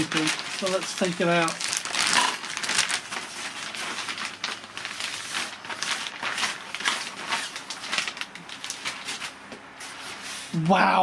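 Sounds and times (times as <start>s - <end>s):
plastic bag rustling and crinkling: 0.0s - 10.6s.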